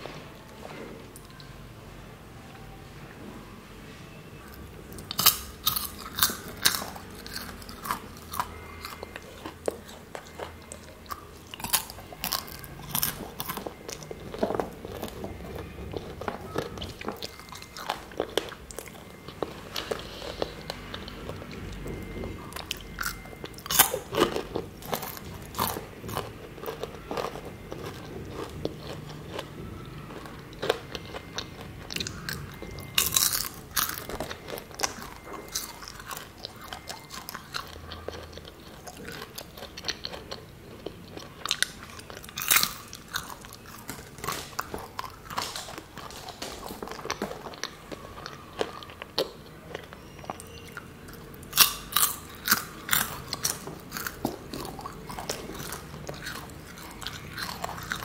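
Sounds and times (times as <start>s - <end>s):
person chewing: 4.4s - 58.0s
popcorn crunching: 4.5s - 58.0s.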